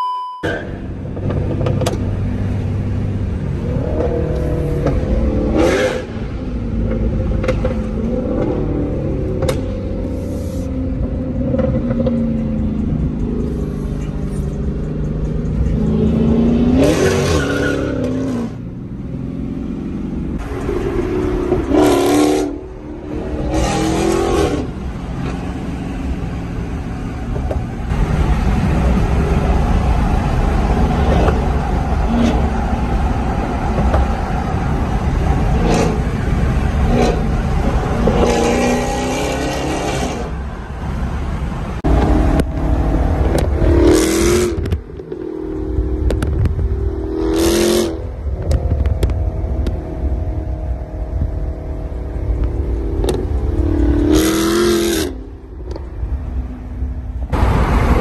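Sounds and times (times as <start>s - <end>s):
loud car engine revving: 0.6s - 26.8s, 27.8s - 40.4s, 41.8s - 58.0s.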